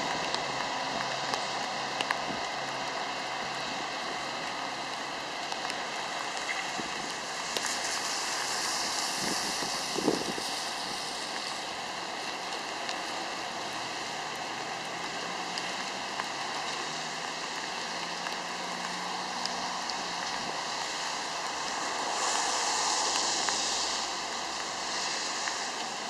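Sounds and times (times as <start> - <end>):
car tyres hissing on wet pavement: 0.0 - 26.0.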